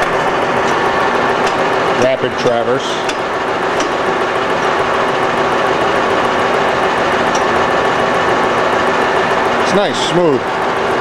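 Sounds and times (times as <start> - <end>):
lathe running hum: 0.0 - 11.0.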